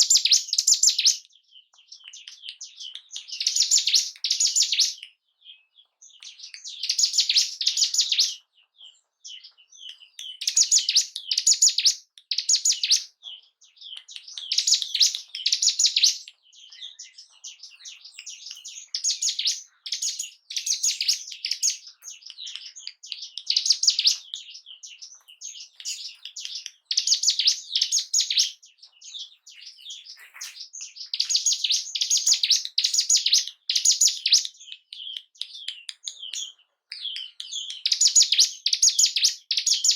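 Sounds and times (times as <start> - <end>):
bird chattering high-pitched: 0.0 - 1.2, 2.0 - 5.0, 6.2 - 8.4, 9.9 - 13.1, 13.8 - 39.9
soft bird twittering: 0.0 - 39.9.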